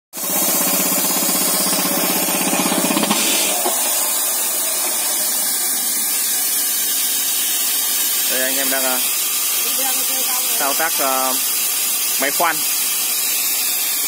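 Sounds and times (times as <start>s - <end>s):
rock drill hammering: 0.2s - 13.2s
compressed air hissing: 0.2s - 14.0s.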